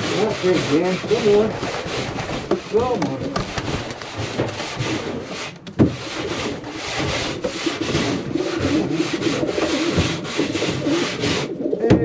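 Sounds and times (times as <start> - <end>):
scraper scraping wood: 0.0 - 11.7.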